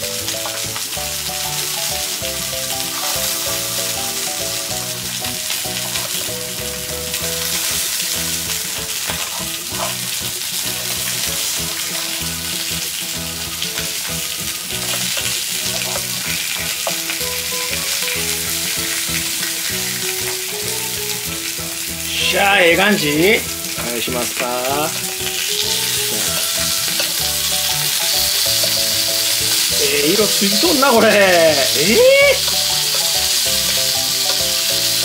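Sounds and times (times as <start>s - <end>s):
steak sizzling on a griddle: 0.0s - 35.0s.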